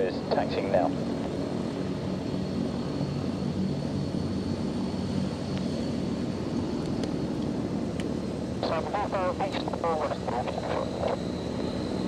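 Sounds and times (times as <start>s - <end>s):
aircraft engine drone: 0.0s - 12.0s
high engine whine: 0.0s - 12.0s.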